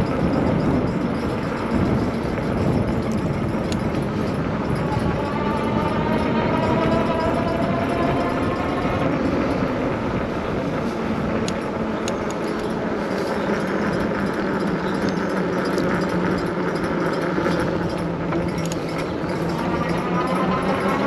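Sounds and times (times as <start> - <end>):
road noise: 0.0 - 21.0
wind on microphone: 0.0 - 21.0.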